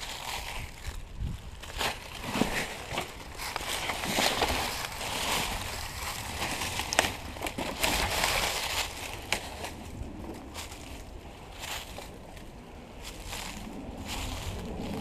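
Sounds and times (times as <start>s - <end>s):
rustling in dry leaves: 0.0s - 15.0s.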